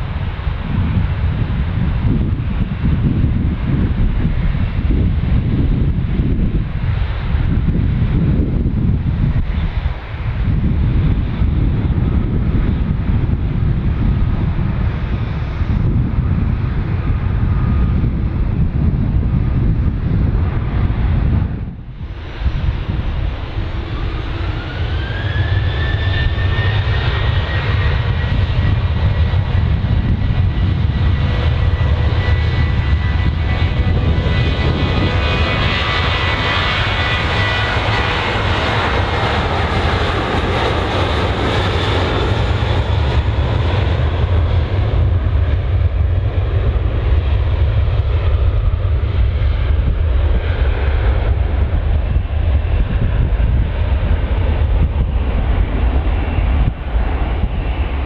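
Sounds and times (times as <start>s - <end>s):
jet engines whining: 0.0s - 58.0s
low rumble: 0.0s - 58.0s.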